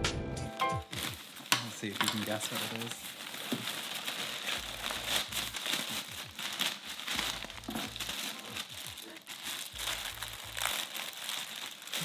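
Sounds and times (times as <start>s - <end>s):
packaging crinkling and rustling: 0.8s - 12.0s.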